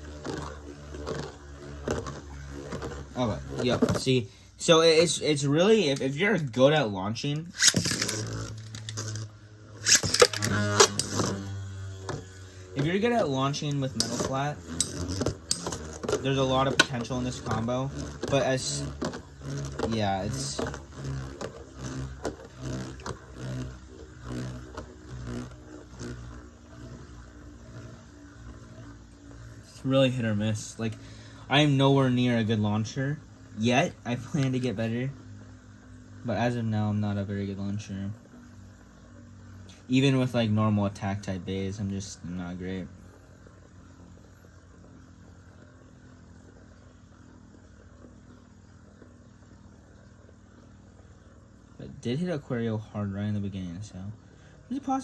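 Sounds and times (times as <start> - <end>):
spinning tops humming: 0.0 - 55.0.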